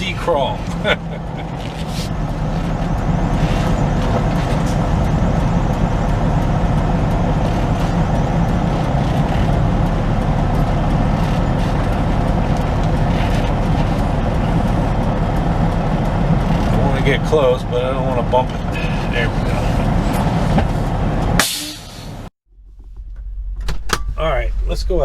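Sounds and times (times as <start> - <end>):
truck diesel engine humming: 0.0 - 25.0.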